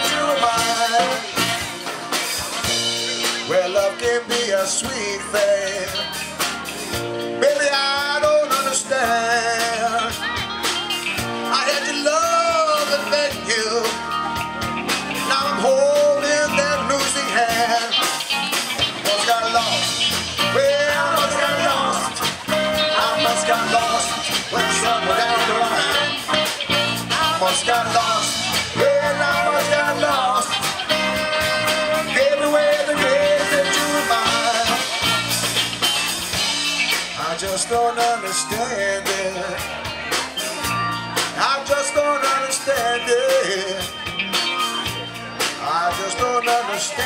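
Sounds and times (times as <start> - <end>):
live blues-rock band: 0.0 - 47.0
trumpet lead line: 0.0 - 47.0.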